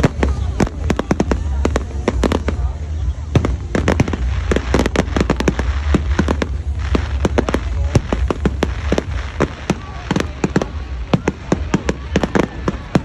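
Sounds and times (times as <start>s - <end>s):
continuous low rumble: 0.0s - 13.0s
fireworks banging: 0.0s - 13.0s.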